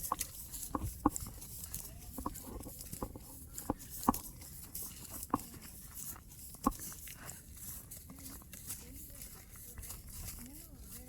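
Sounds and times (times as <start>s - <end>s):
footsteps in snow: 0.0s - 11.0s.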